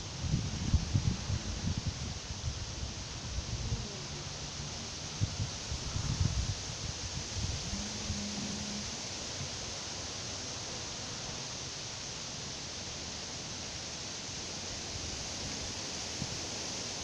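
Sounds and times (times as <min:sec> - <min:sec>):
outdoor nature ambience hiss: 0:00.0 - 0:17.0.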